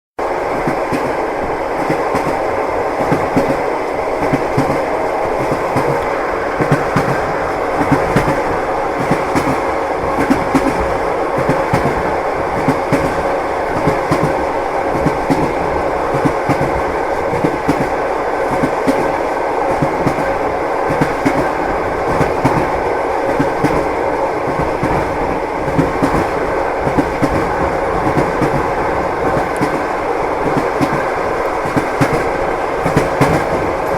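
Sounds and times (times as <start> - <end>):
train wheels clattering over rails: 0.4 - 33.9.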